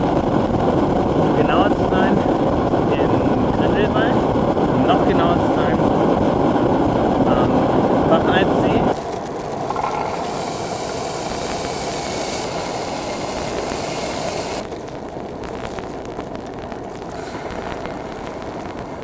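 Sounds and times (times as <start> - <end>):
gas stove hissing: 0.0 - 19.0.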